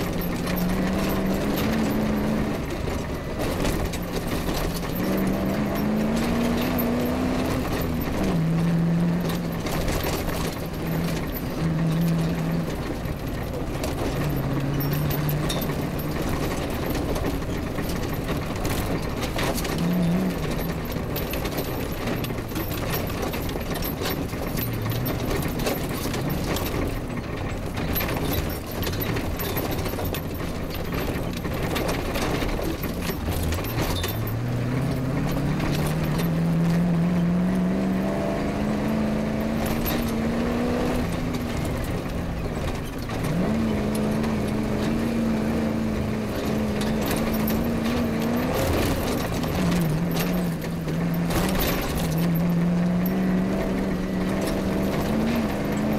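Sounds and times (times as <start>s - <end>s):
car body rattling and knocking: 0.0s - 55.9s
rally car engine revving: 0.0s - 55.9s.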